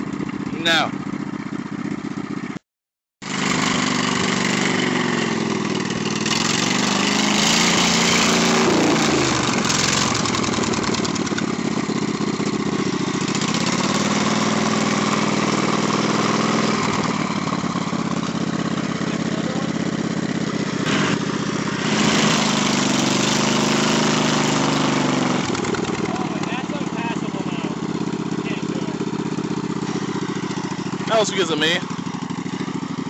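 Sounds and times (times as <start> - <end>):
riding mower engine under load: 0.0 - 2.6, 3.2 - 33.0.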